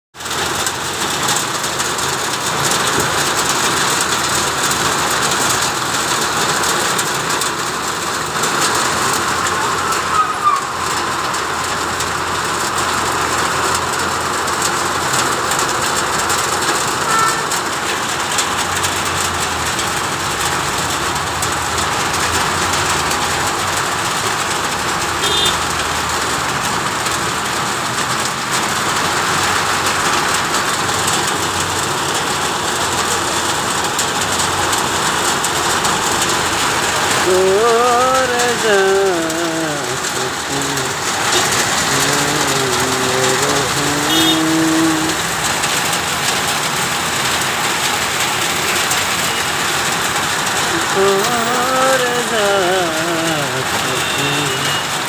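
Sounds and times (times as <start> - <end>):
heavy rain on wet road: 0.1 - 55.0
traffic passing through water: 0.2 - 55.0.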